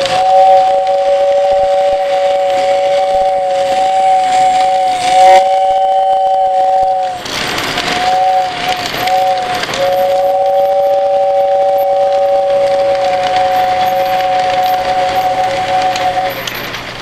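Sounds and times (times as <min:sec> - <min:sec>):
model train whistle: 0:00.0 - 0:17.0
rushing hiss: 0:00.0 - 0:17.0.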